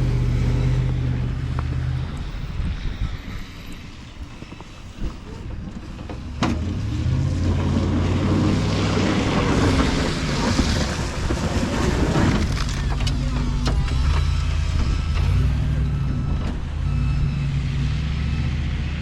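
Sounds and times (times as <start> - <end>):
plow blade pushing snow: 0.0 - 19.0
truck engine under load: 0.0 - 19.0.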